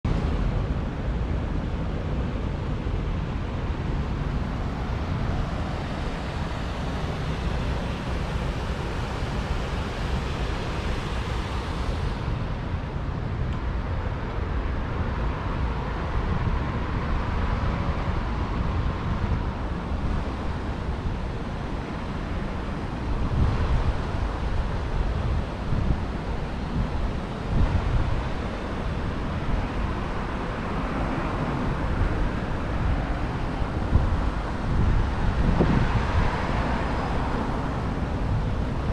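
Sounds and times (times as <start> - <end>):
passing road traffic: 0.0 - 38.9
wind rumbling on microphone: 0.0 - 38.9.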